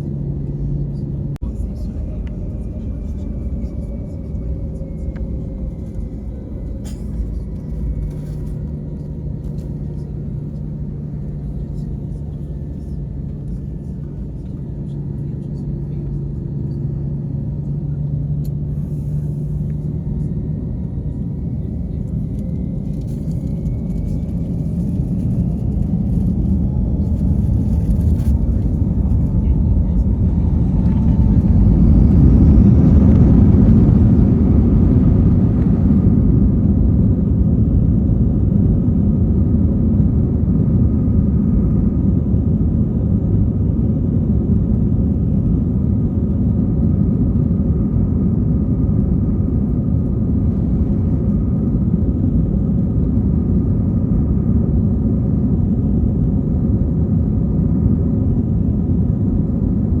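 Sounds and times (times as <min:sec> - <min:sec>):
jet engines and airflow rumble: 0:00.0 - 1:00.0.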